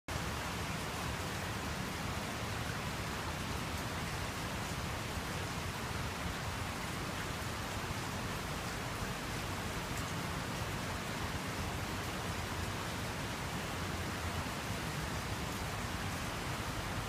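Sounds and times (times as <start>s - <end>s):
heavy rain falling: 0.1s - 17.0s.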